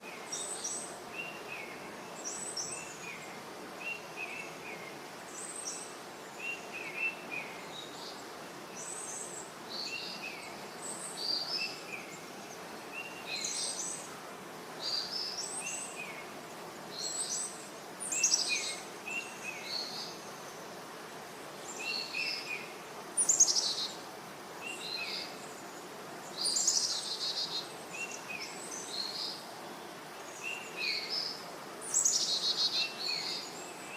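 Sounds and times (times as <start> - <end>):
background hiss: 0.0 - 33.9.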